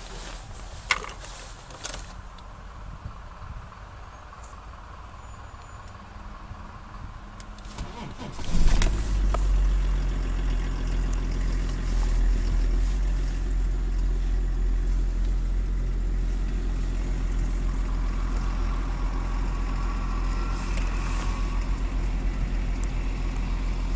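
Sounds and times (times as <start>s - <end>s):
diesel engine idling: 2.2s - 23.9s.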